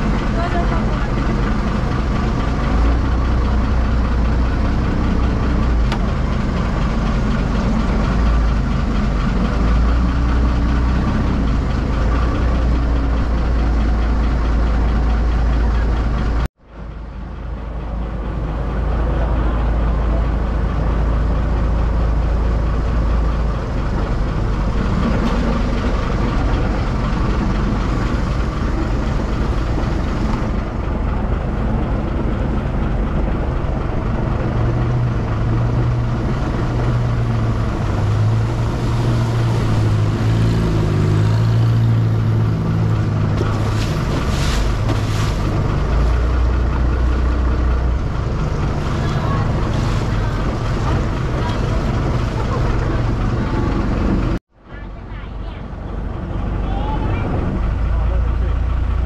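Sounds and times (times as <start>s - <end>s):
water noise: 0.0s - 54.6s
boat engine rumbling: 0.0s - 59.0s.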